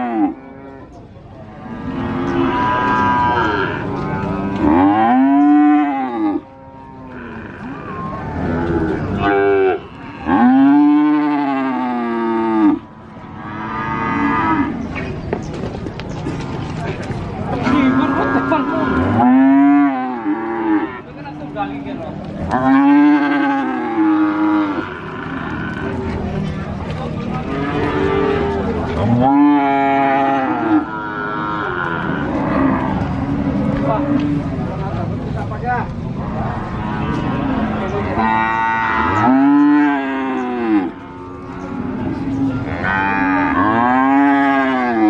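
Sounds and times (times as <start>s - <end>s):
cattle mooing: 0.0s - 1.0s, 1.6s - 14.9s, 17.6s - 21.1s, 22.4s - 26.4s, 27.2s - 34.4s, 36.2s - 45.0s.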